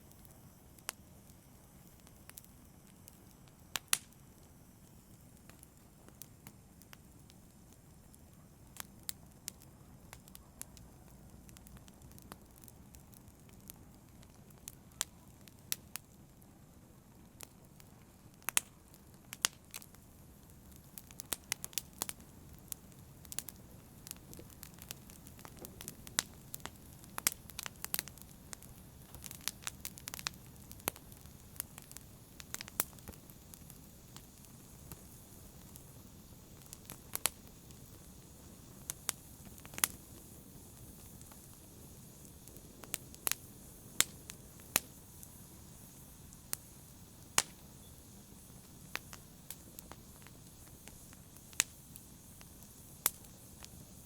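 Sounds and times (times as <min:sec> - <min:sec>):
flames rumbling and hissing: 0:00.0 - 0:54.0
wood fire crackles and pops: 0:00.0 - 0:54.0.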